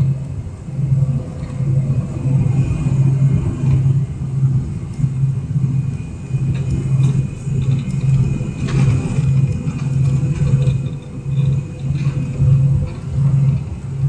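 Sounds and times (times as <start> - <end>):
aircraft cabin engine rumble: 0.0 - 14.0.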